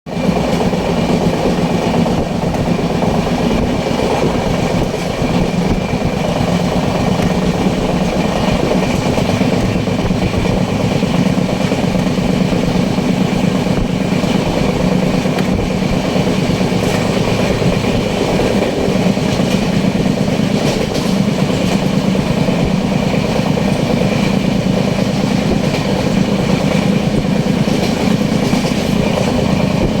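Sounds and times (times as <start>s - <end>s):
train wheels on rails: 0.1s - 30.0s.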